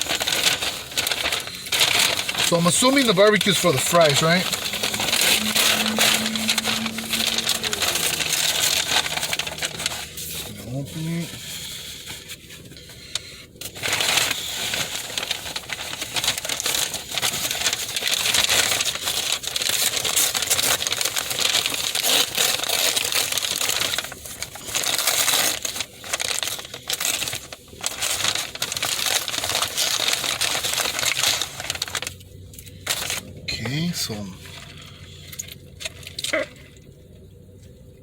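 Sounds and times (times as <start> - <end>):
paper packaging crinkling: 0.0 - 36.8.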